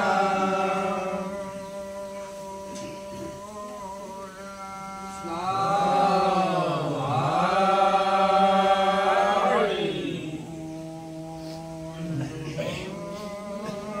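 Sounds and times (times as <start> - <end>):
group chanting: 0.0 - 14.0.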